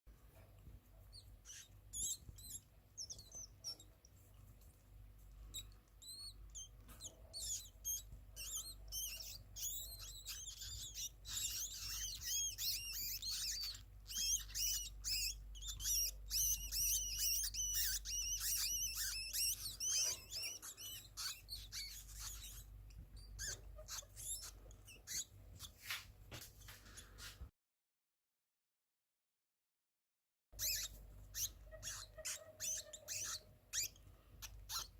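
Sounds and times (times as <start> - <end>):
small rodents squeaking: 0.3 - 26.0, 30.6 - 34.9.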